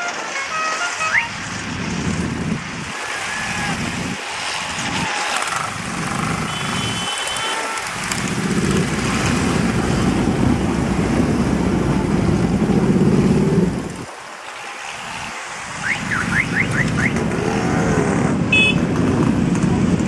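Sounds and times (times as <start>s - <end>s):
motorcycle engines rumbling: 1.3s - 14.2s, 15.0s - 20.0s.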